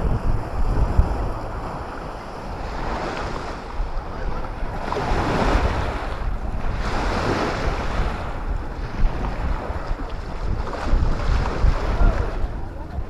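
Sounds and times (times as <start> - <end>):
sea waves washing onto shore: 0.0 - 13.0
wind rumbling on microphone: 0.0 - 13.0.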